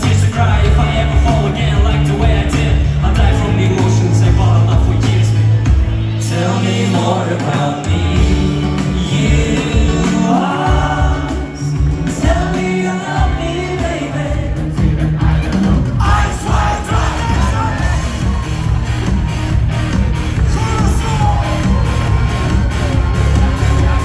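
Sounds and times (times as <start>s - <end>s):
man singing: 0.0s - 18.5s, 20.4s - 21.9s
band with bass and electric guitar: 0.0s - 24.0s.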